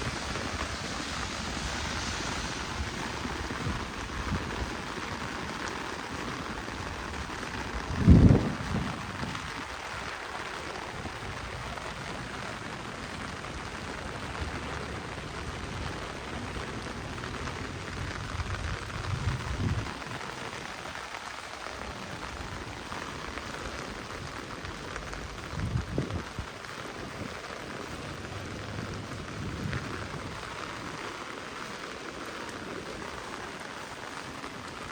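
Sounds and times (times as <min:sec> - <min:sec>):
heavy rain on street: 0:00.0 - 0:34.9.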